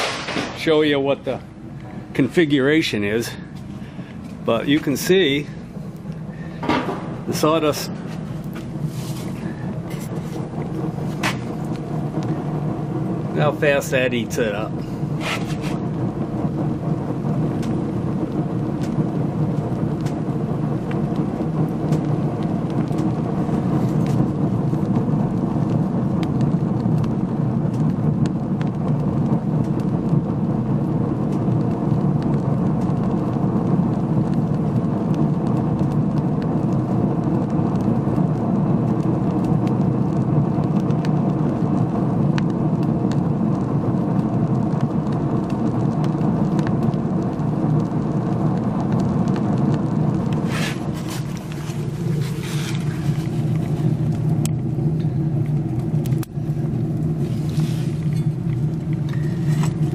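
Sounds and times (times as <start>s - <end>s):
furnace fire rushing and crackling: 0.0s - 59.9s.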